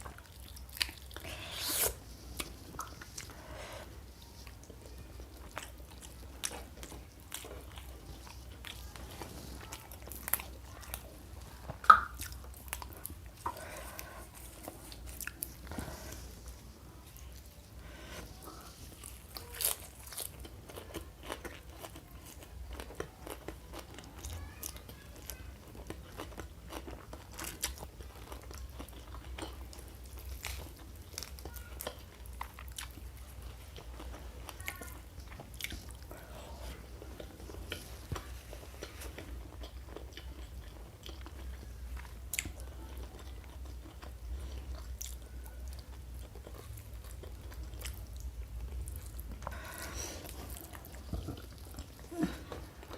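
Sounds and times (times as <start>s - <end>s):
crunching and chewing: 0.0s - 52.9s.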